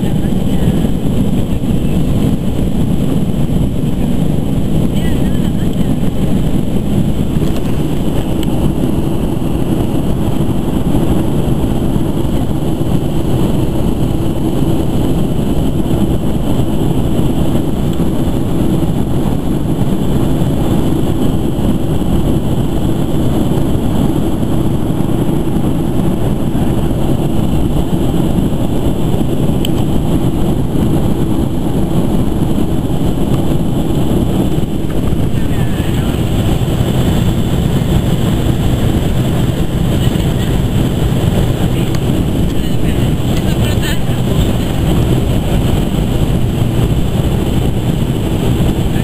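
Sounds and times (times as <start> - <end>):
airflow rush in cabin: 0.0 - 49.0
jet engines rumbling: 0.0 - 49.0.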